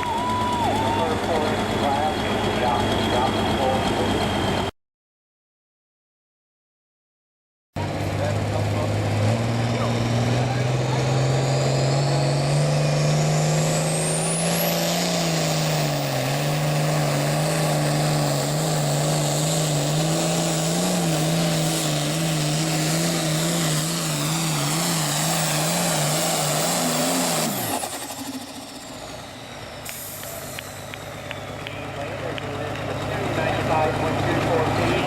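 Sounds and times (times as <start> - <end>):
diesel engine at full throttle: 0.0 - 4.7, 7.8 - 35.0.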